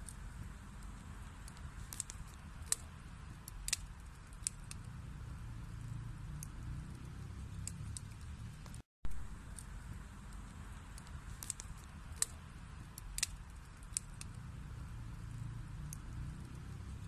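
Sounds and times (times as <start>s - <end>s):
logs crackling and popping: 0.0s - 17.0s
wood fire burning: 0.0s - 17.0s.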